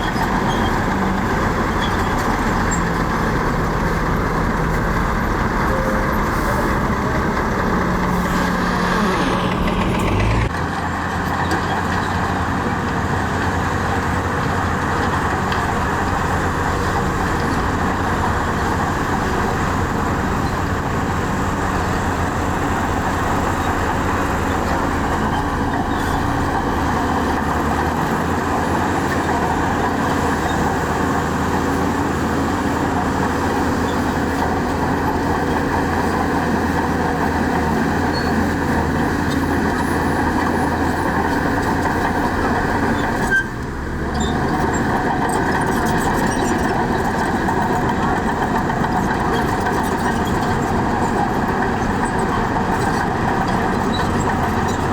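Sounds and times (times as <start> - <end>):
diesel earthmoving machinery running: 0.0 - 54.9.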